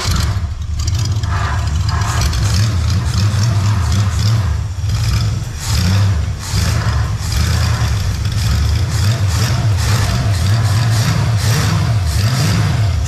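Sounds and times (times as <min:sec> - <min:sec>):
engine revving and running: 0:00.0 - 0:13.0.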